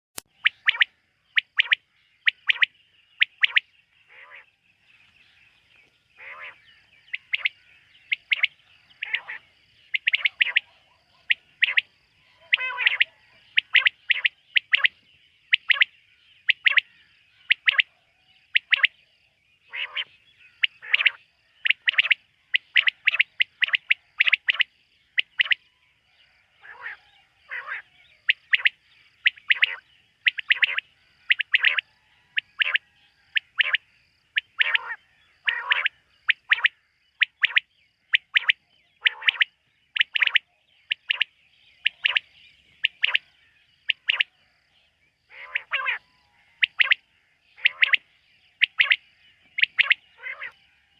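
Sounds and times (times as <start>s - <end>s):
quail calling: 0.4s - 4.5s, 6.2s - 19.0s, 19.7s - 25.6s, 26.5s - 44.3s, 45.3s - 47.0s, 47.6s - 48.0s, 48.6s - 50.6s.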